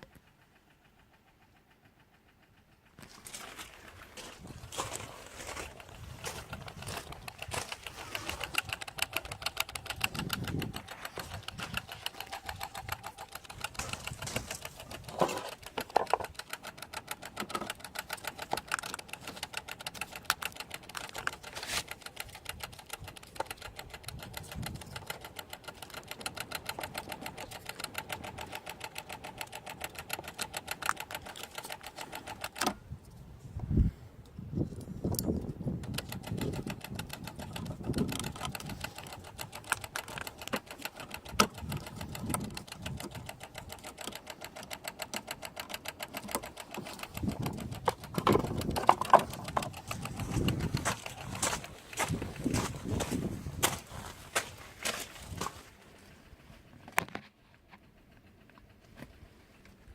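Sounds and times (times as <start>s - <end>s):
relay clicking rapidly: 0.0s - 32.8s, 35.0s - 55.9s.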